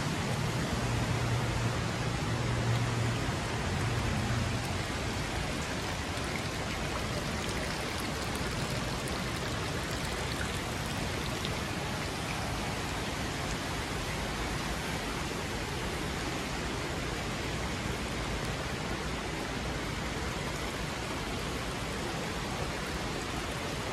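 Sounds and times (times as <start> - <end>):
running water of shallow stream: 0.0 - 23.9.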